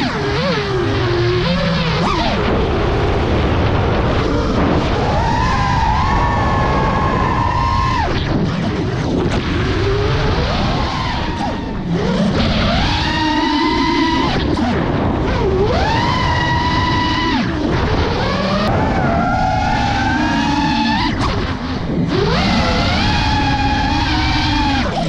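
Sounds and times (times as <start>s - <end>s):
quadcopter motors whining: 0.0s - 25.0s
wind and prop wash rushing: 0.0s - 25.0s.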